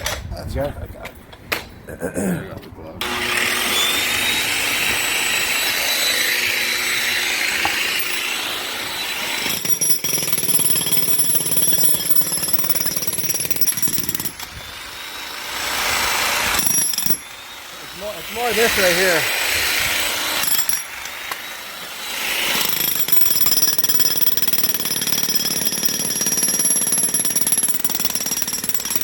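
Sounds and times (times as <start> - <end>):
power tool chipping concrete: 3.0 - 29.0.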